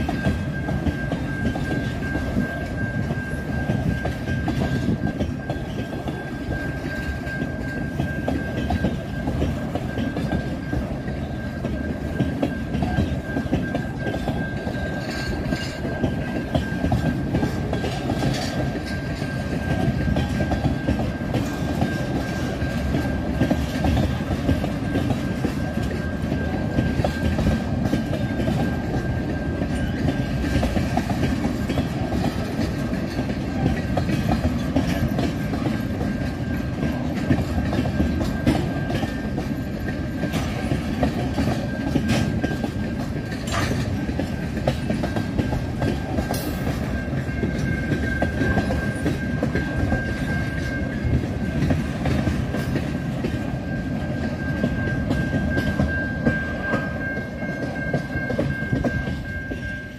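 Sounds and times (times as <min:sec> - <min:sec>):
freight train rumble and clatter: 0:00.0 - 0:59.9.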